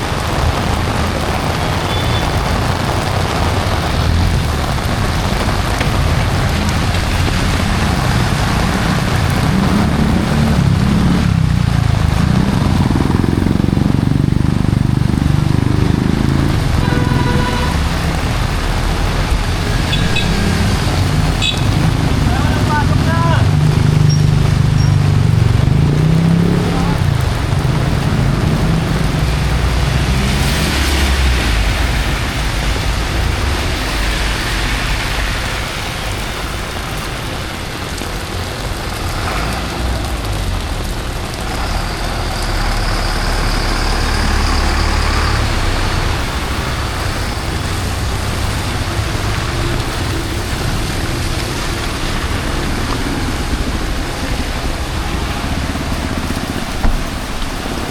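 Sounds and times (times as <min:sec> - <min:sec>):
heavy rain hissing on street: 0:00.0 - 0:57.9
heavy vehicle engine rumbling: 0:00.0 - 0:57.9
traffic on wet road: 0:00.0 - 0:57.9.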